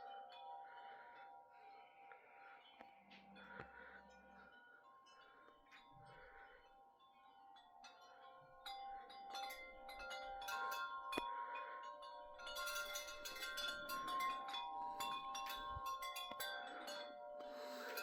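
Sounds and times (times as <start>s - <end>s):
wind chimes ringing: 0.0s - 18.0s.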